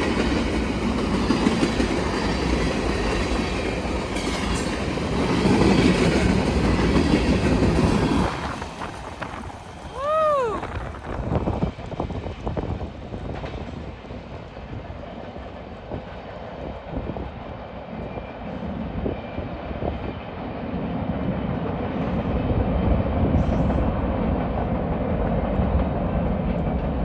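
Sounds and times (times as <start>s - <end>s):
train wheels rumbling and clattering: 0.0s - 27.0s.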